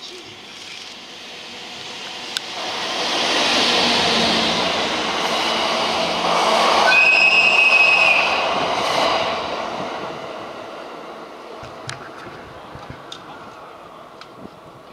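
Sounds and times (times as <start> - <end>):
train cars rolling on rails: 0.0 - 14.9.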